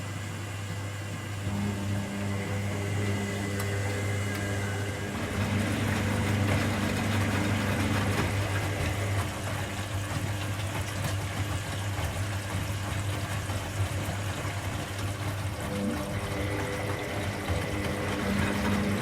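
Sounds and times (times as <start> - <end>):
washing machine motor hum: 0.0 - 19.0
water in turning drum: 0.0 - 19.0.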